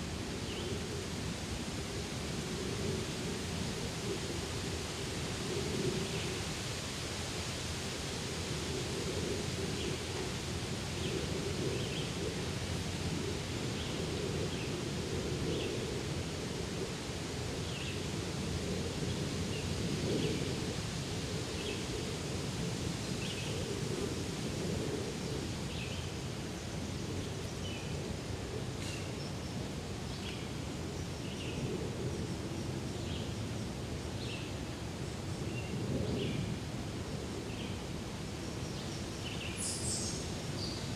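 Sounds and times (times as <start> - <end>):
wind rustling foliage: 0.0 - 40.9.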